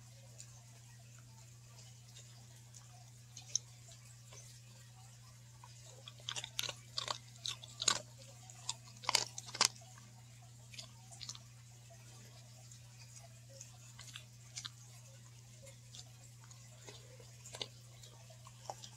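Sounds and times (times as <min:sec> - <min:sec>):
dog chewing crunchy cookie: 0:00.3 - 0:18.9.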